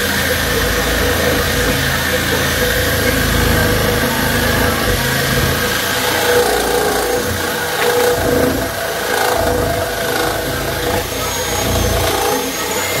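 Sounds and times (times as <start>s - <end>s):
reciprocating saw cutting wood: 0.0s - 13.0s.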